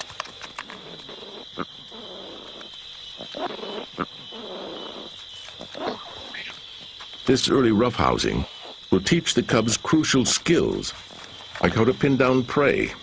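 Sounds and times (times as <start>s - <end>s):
leopard cubs growling and snarling: 0.0s - 13.0s.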